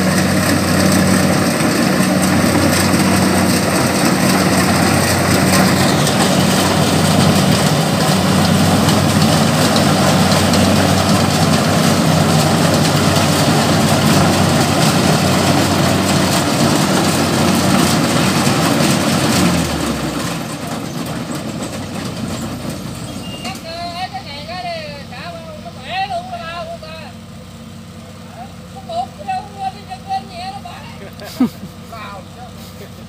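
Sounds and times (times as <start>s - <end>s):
combine harvester engine running: 0.0s - 33.0s.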